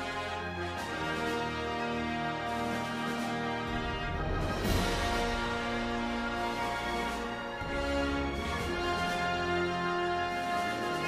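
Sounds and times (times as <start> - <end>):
sustained chords music: 0.0 - 11.0.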